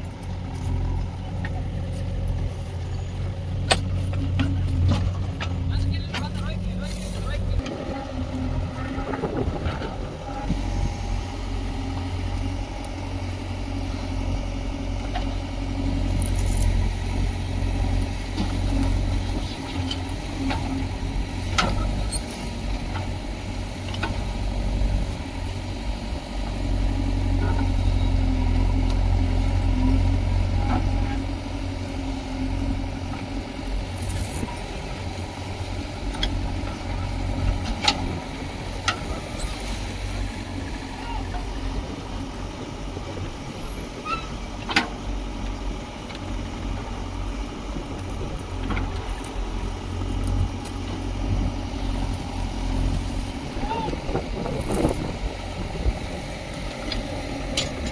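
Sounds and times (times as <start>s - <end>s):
heavy machinery diesel engine: 0.0s - 57.9s.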